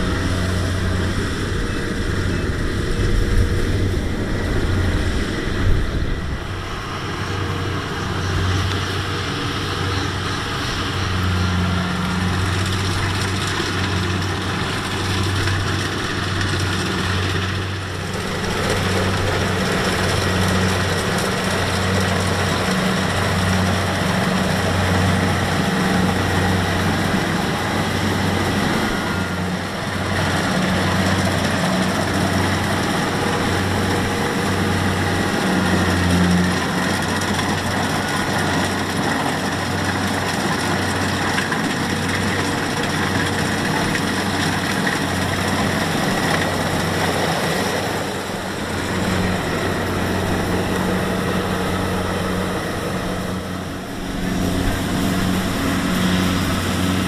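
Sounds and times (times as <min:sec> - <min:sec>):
combine harvester diesel engine drone: 0:00.0 - 0:57.0.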